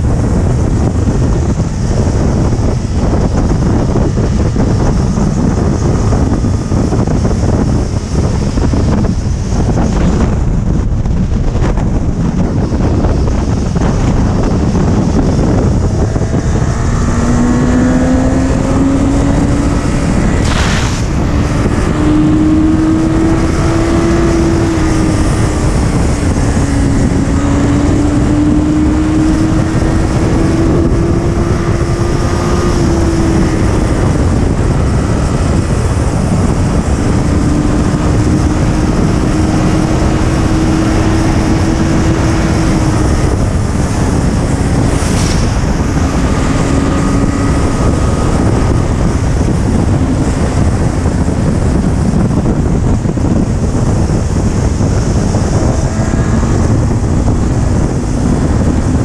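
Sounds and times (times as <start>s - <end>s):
motorcycle engine hum: 0.0s - 59.0s
wind rush on microphone: 0.0s - 59.0s.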